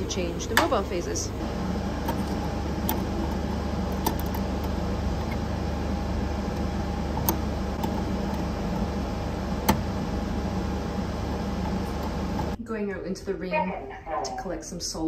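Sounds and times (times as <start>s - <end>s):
laboratory equipment hum: 0.0s - 15.0s.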